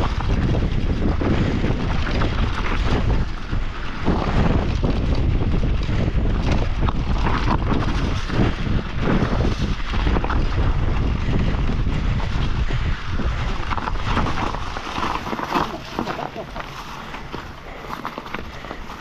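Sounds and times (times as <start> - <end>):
bike jolting and rattling: 0.0 - 19.0
knobby tyres rumbling: 0.0 - 19.0
wind buffeting microphone: 0.0 - 19.0.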